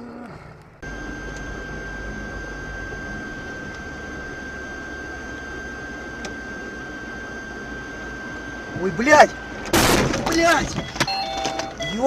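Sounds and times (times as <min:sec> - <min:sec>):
car engine and road noise: 0:00.5 - 0:12.0.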